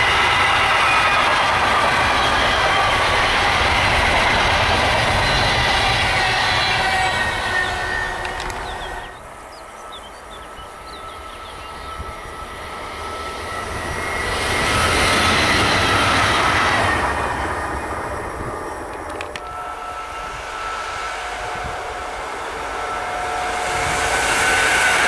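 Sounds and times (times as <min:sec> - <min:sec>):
electric train passing with whine: 0:00.0 - 0:25.0
freight train rumble: 0:00.0 - 0:25.0.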